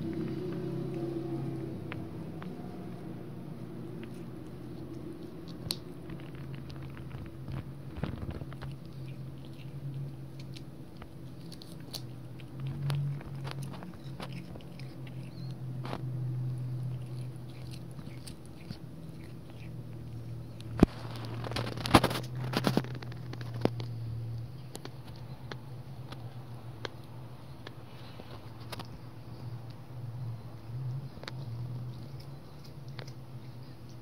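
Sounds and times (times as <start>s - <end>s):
cat chewing grass: 0.0s - 34.0s.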